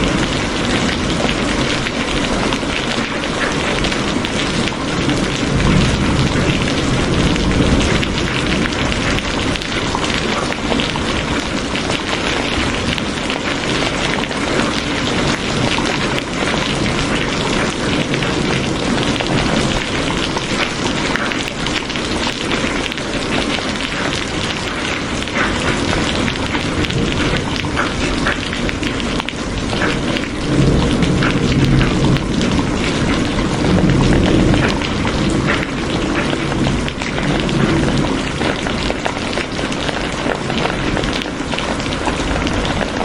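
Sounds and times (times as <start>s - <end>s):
heavy rain hissing: 0.0s - 43.0s
low rumbles of thunder: 0.0s - 43.0s
raindrops ticking: 0.0s - 43.0s.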